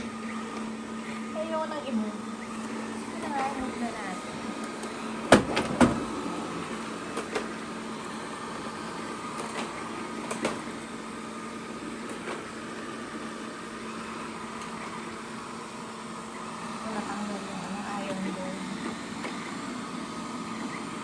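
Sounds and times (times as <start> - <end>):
robot vacuum motor hum: 0.0 - 21.0.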